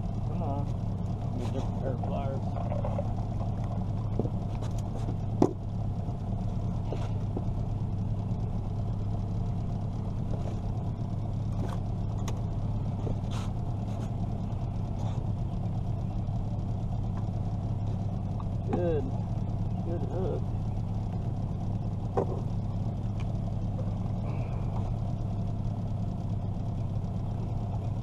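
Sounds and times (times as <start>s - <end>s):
boat motor idling: 0.0s - 28.0s.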